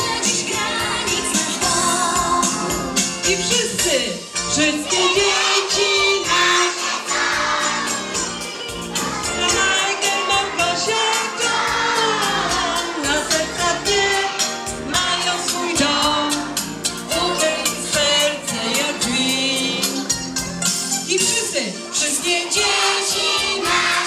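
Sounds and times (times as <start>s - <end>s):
group singing: 0.0s - 3.1s, 4.5s - 20.0s, 22.0s - 24.0s
backing track with quick beat: 0.0s - 24.0s.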